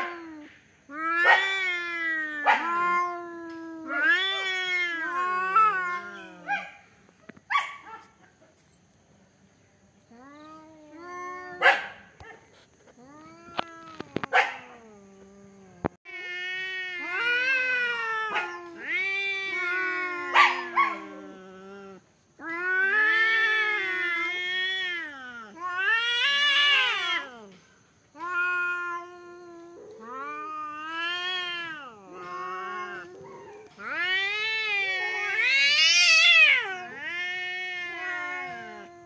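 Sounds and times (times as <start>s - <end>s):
cats yowling: 0.0s - 6.8s, 10.1s - 39.0s.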